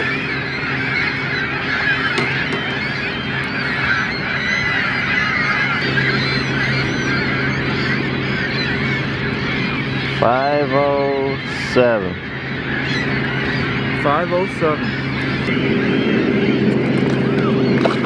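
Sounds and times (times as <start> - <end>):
flock of birds calling: 0.0 - 18.0.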